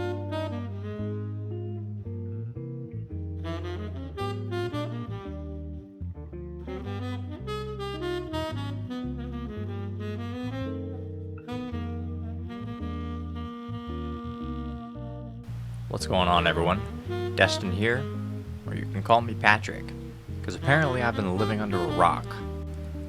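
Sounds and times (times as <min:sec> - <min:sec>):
bass line: 0:00.0 - 0:23.0
saxophone lead: 0:00.0 - 0:23.0.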